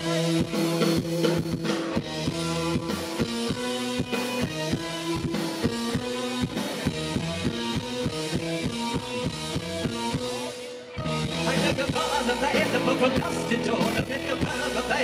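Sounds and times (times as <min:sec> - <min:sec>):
drum kit beat: 0:00.0 - 0:15.0
live rock band playing: 0:00.0 - 0:15.0.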